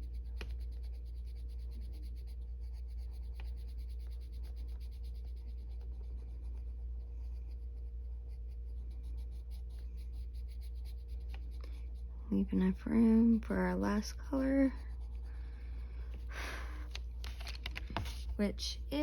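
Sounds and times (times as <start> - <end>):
pencil scratching on paper: 0.0 - 16.3, 16.9 - 19.0
steady low hum: 0.0 - 19.0.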